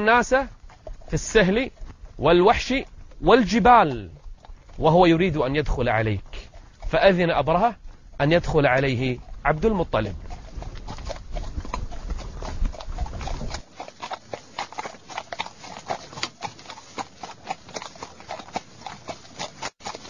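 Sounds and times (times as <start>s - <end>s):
horses hooves clopping: 0.0s - 20.0s.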